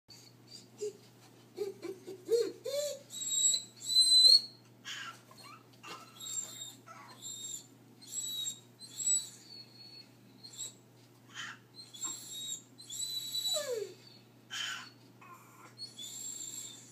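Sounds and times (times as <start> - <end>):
dog whimpering: 0.1 - 16.9
dog whining: 0.1 - 16.9.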